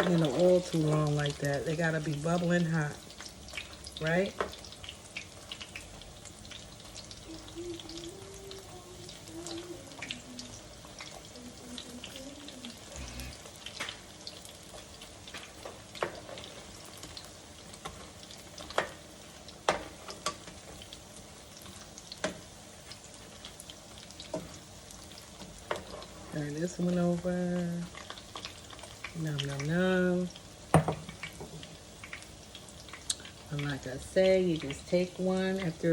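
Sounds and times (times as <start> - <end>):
deep-frying sizzle with pops: 0.0 - 35.9.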